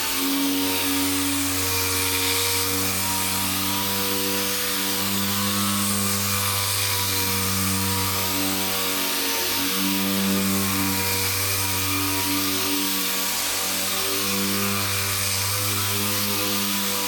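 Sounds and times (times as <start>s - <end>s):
sander whirring with paper hiss: 0.0s - 17.0s.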